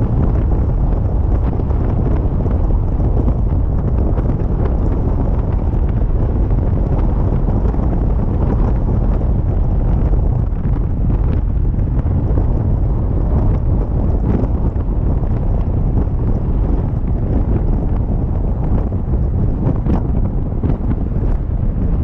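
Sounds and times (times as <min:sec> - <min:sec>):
vehicle driving rumble: 0:00.0 - 0:22.0
wind buffeting microphone: 0:00.0 - 0:22.0.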